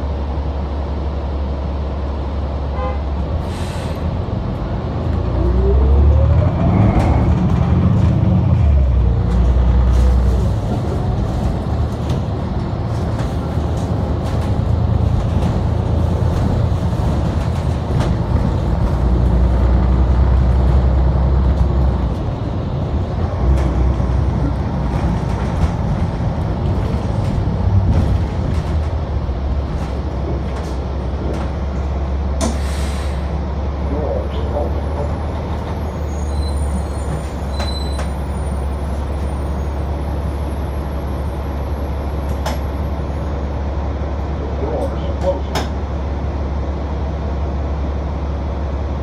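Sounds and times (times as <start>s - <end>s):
bus engine drone: 0.0s - 49.0s
road noise: 0.0s - 49.0s.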